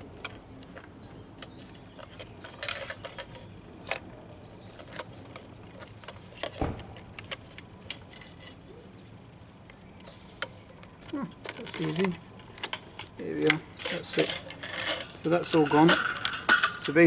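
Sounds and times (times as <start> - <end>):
parts clicking and rattling: 0.0 - 4.1, 4.7 - 8.7, 9.7 - 17.0.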